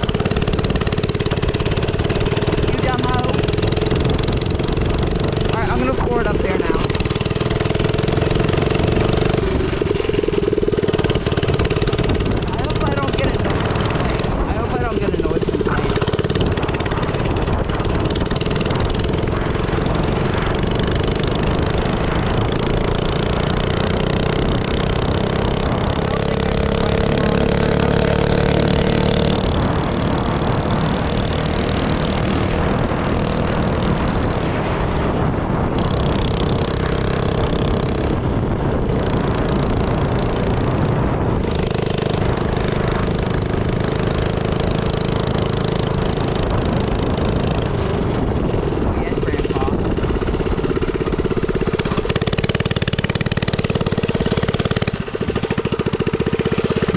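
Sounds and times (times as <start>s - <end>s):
minibike engine running: 0.0s - 56.9s.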